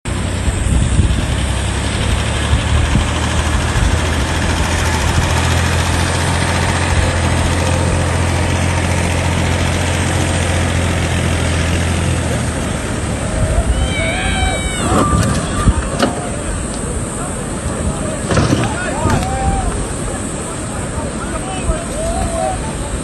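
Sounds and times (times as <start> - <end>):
tractor engine droning: 0.0 - 23.0.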